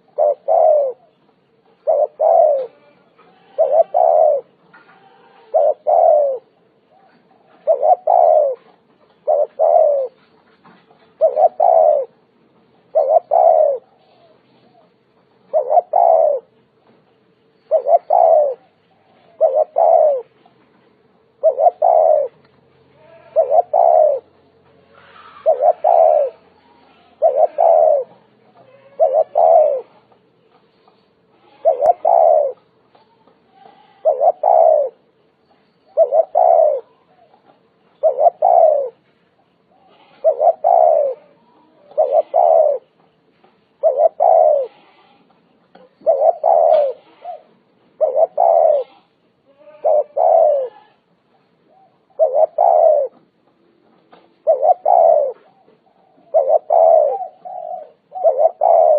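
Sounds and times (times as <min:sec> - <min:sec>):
dove cooing: 0:00.0 - 0:16.6, 0:17.7 - 0:30.6, 0:31.2 - 0:35.1, 0:35.9 - 0:43.1, 0:43.8 - 0:58.9.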